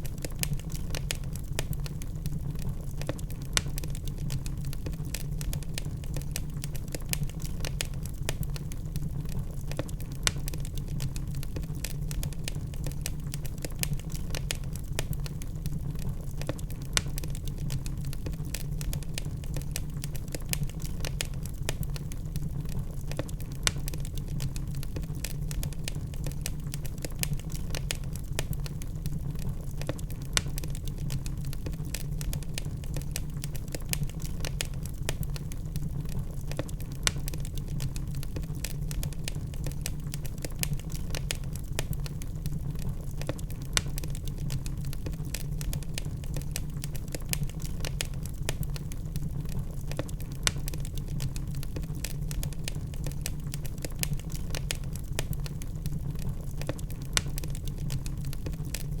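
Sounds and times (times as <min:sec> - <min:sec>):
burning logs crackling: 0:00.0 - 0:59.0.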